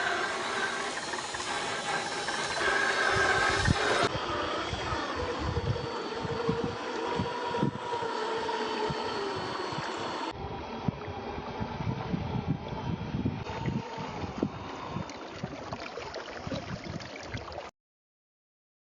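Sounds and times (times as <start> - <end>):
toy car motor and gear whine: 0.0 - 15.4
wind buffeting microphone: 1.3 - 15.8, 16.4 - 17.2.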